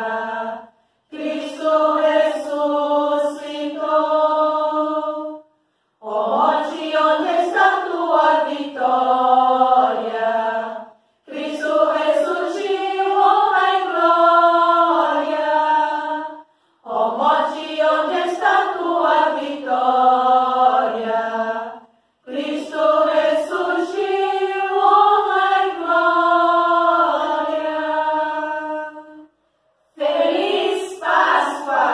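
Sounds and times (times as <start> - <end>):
women's choir singing a hymn: 0.0 - 31.9.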